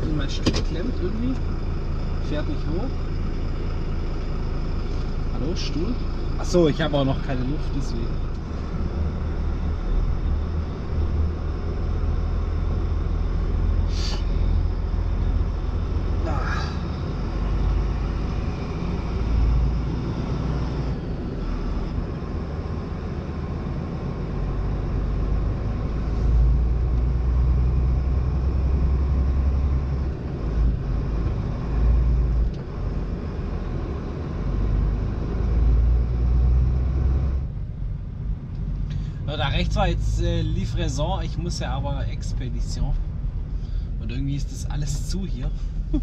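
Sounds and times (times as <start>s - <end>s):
truck diesel engine rumbling: 0.0s - 46.0s.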